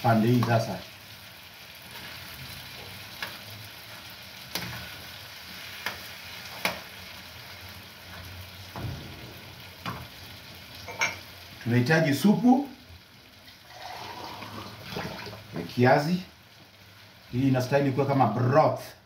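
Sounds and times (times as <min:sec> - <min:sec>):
sausages sizzling in a frying pan: 0:00.0 - 0:19.0.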